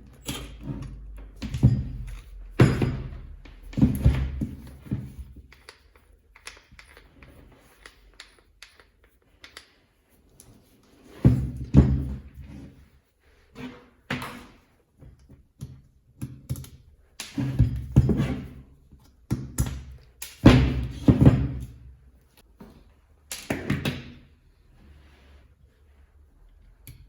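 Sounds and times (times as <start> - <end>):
tools handled on a workbench: 0.0 - 12.9, 13.5 - 24.0.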